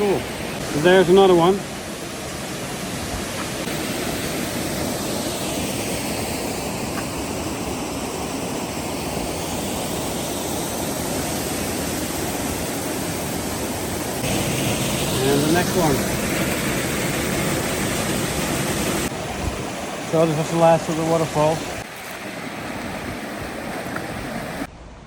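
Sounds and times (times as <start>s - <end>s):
waterfall rushing: 0.0s - 24.7s.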